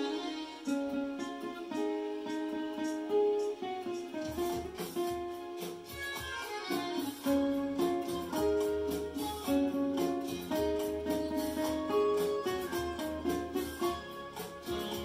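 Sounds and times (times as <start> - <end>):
acoustic guitar picking melody: 0.0 - 15.0.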